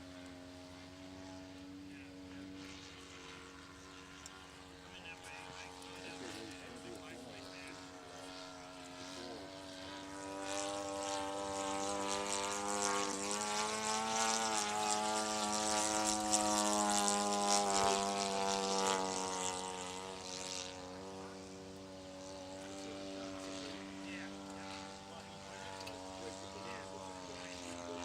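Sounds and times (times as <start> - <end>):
model aircraft engine flying past: 0.0 - 28.0.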